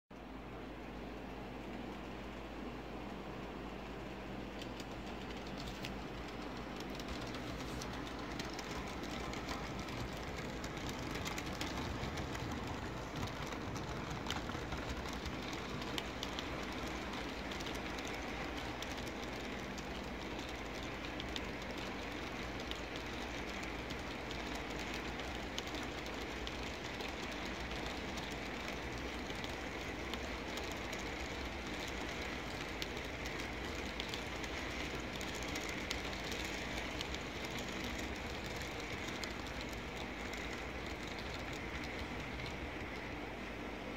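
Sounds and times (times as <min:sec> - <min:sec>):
model train wheels rumbling: 0:00.4 - 0:43.9
wheels clicking over rail joints: 0:04.5 - 0:43.4.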